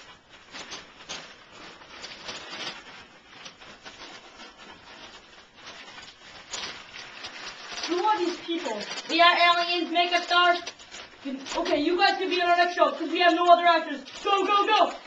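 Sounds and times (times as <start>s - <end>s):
rustling and rubbing: 0.0s - 15.0s.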